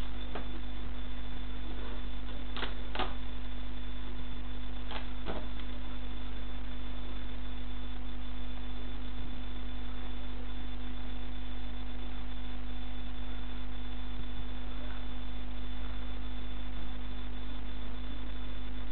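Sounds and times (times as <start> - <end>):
low electrical hum: 0.0 - 18.9.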